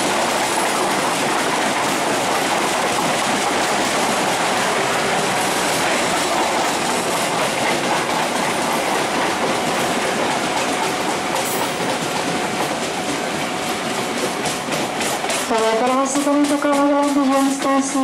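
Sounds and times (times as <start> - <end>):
train wheels rumbling and clattering: 0.0 - 18.0.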